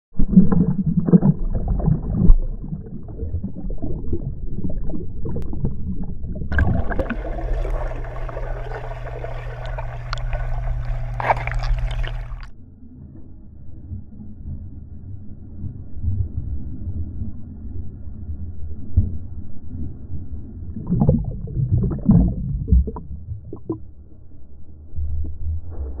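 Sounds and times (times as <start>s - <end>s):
muffled water splashing and gurgling: 0.1s - 26.0s
steady low hum: 1.2s - 26.0s.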